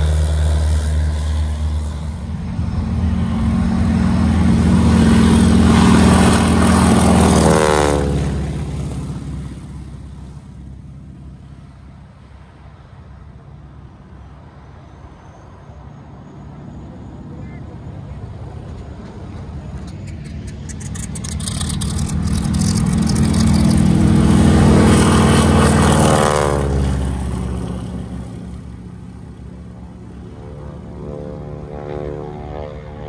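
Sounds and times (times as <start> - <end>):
propeller plane flyby: 0.0 - 33.0
second aircraft engine approaching: 0.0 - 33.0.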